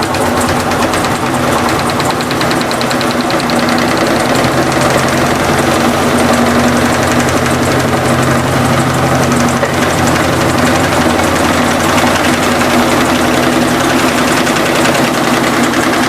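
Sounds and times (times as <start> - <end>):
fast rattling knock: 0.0 - 16.0
washing machine spinning: 0.0 - 16.0.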